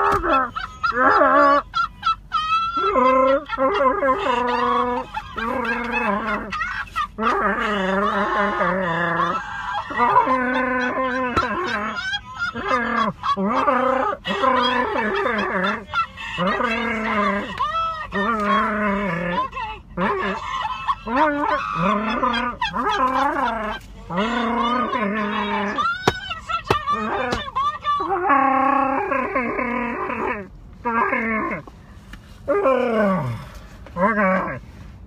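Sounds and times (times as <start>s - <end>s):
high-pitched honking laughter: 0.0s - 30.5s.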